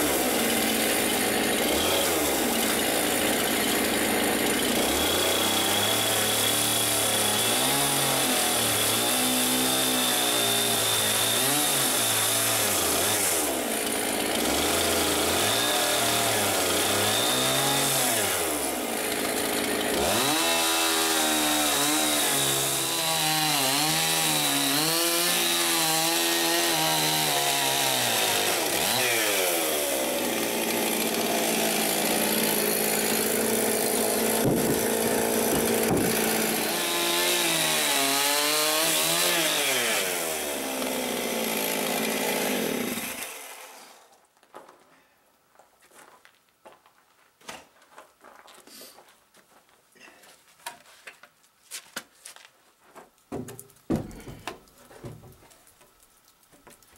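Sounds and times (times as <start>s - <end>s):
chainsaw cutting through log: 0.0s - 44.1s, 53.3s - 55.4s.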